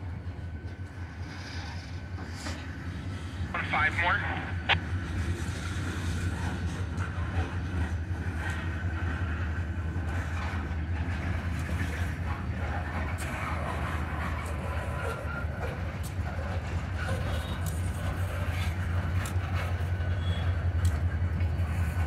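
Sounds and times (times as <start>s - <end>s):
diesel locomotive drone: 0.0s - 22.0s
train wheels rolling on rails: 0.0s - 22.0s.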